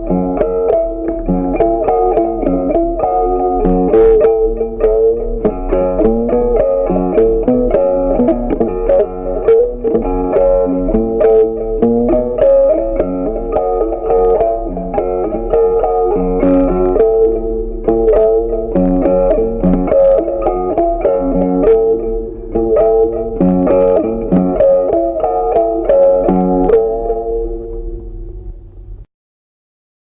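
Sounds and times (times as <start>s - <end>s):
plucked instrumental melody: 0.0s - 29.0s
low steady hum: 0.0s - 29.1s.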